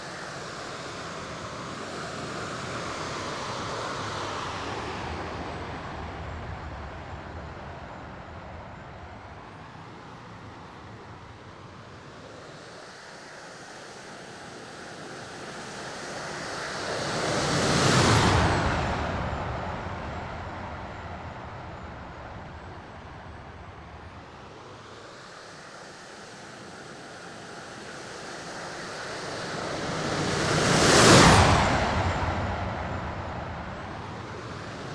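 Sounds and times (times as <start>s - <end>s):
model jet passing: 0.0s - 34.9s.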